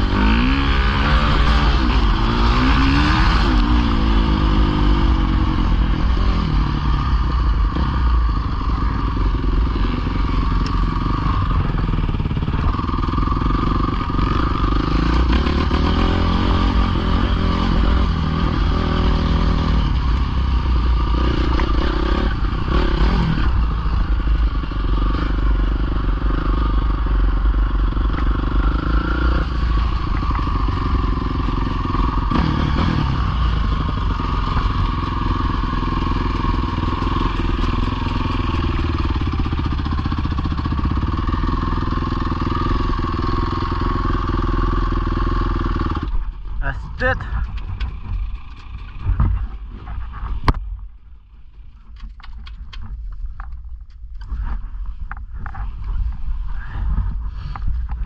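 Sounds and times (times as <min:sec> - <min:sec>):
dirt bike engine revving: 0:00.0 - 0:50.6.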